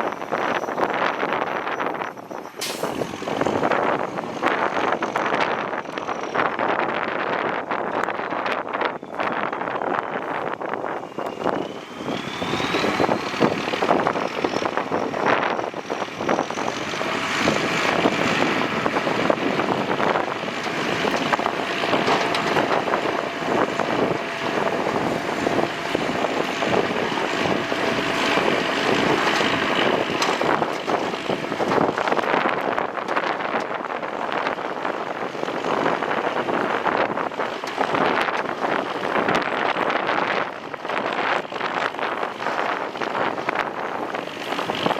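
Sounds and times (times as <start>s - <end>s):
bulldozer engine whining: 0.0s - 44.9s.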